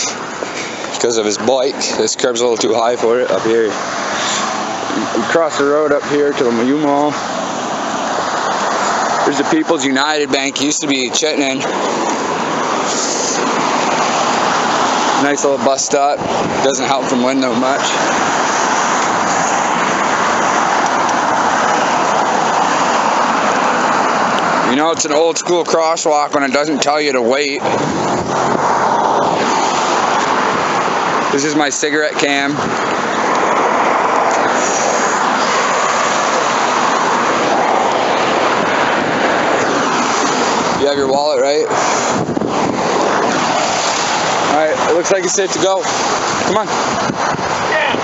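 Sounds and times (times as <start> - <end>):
cars passing on busy road: 0.0 - 48.0.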